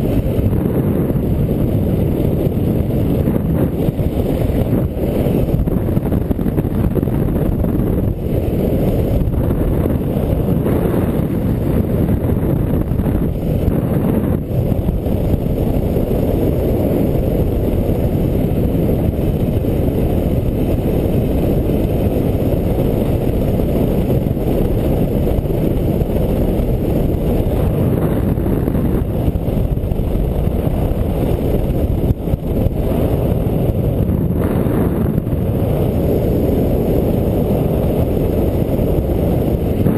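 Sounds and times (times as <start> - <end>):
loud wind on microphone: 0.0 - 39.9.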